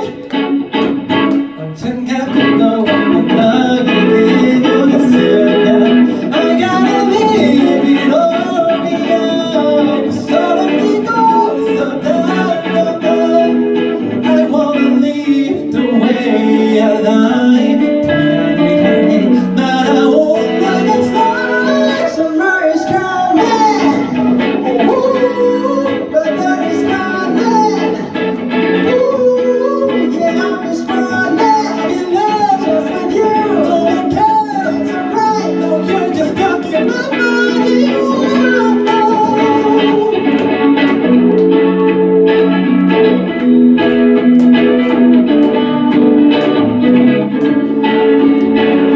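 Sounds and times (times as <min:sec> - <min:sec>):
guitar accompaniment: 0:00.0 - 0:48.9
person singing: 0:00.0 - 0:48.9.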